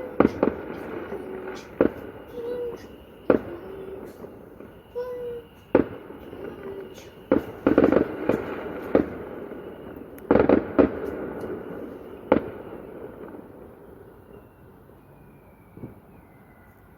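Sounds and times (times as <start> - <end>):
rolling echo: 0.0 - 13.8
fireworks bangs: 0.0 - 13.9
fireworks crackling: 0.0 - 14.0.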